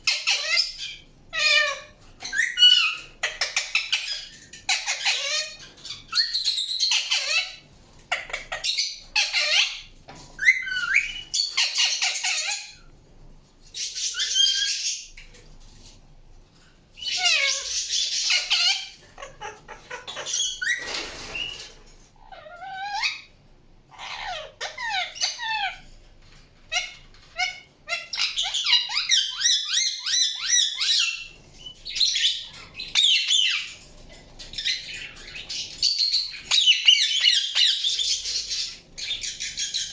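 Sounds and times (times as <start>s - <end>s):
parakeet squawking and chirping: 0.0s - 12.9s, 13.7s - 15.4s, 17.0s - 39.9s.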